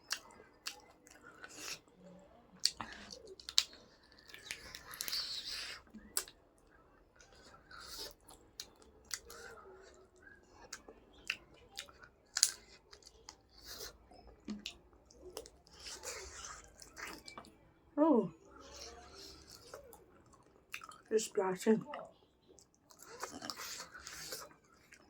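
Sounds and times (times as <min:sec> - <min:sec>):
person chewing food: 0:00.0 - 0:17.6, 0:18.4 - 0:21.1, 0:21.9 - 0:25.0.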